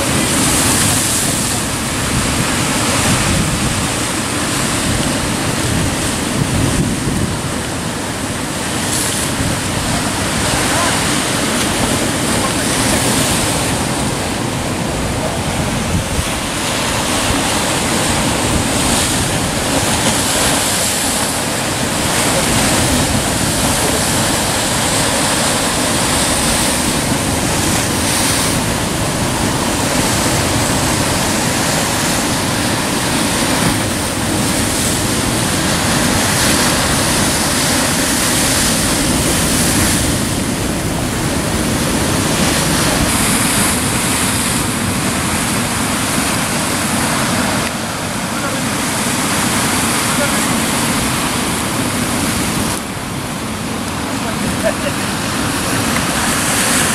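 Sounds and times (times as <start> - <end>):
sea surf breaking on rocks: 0.0 - 56.9.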